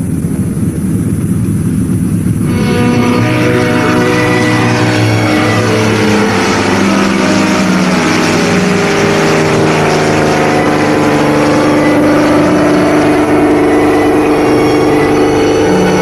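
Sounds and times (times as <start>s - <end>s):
propeller aircraft engine droning: 0.0s - 16.0s.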